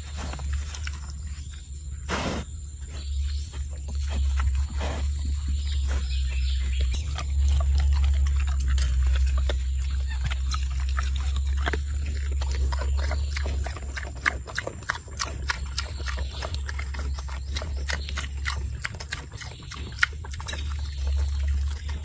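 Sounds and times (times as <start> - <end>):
low rumble: 0.0 - 22.0
pigs feeding clicks and knocks: 0.0 - 22.0.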